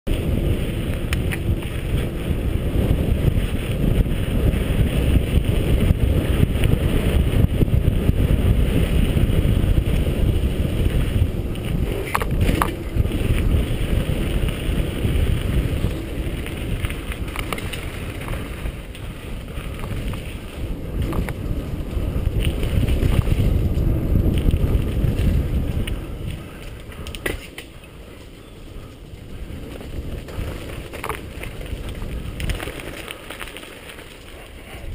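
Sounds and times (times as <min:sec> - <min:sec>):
bike tyres rolling on dirt: 0:00.1 - 0:34.9
wind buffeting microphone: 0:00.1 - 0:34.9
bike clicks and knocks: 0:00.6 - 0:08.2, 0:08.8 - 0:34.9.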